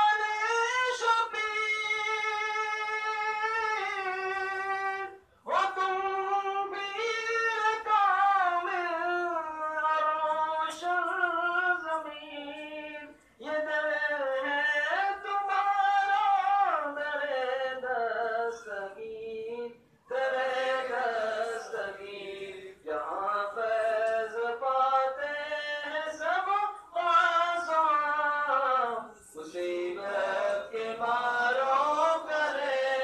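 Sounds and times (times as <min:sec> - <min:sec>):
person singing devotional chant: 0:00.0 - 0:33.0.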